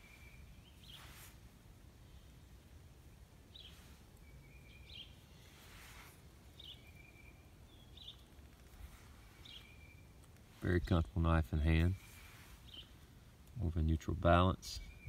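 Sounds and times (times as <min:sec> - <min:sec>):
low outdoor rumble: 0:00.0 - 0:15.0
soft hiss: 0:00.0 - 0:15.0.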